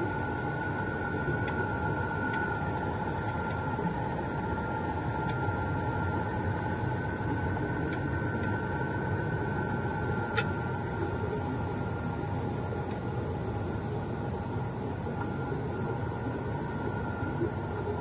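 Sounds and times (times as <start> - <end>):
faint steady whines: 0.0 - 18.0.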